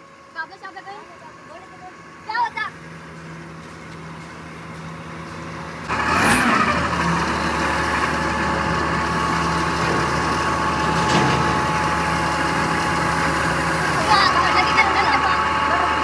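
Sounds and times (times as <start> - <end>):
large engine running steadily: 0.0 - 16.0.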